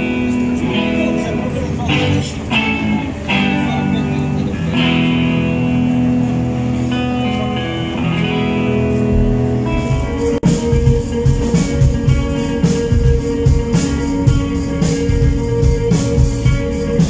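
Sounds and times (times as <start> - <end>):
guitar strumming chords: 0.0 - 17.0.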